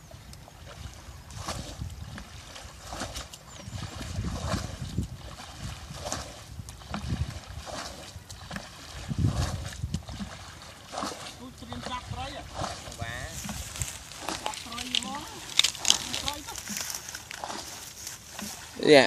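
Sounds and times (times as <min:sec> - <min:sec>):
pond water splashing: 0:00.0 - 0:19.0.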